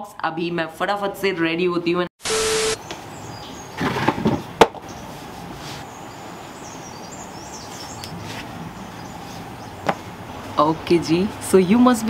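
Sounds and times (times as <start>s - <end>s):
outdoor background hiss: 0.2s - 12.0s.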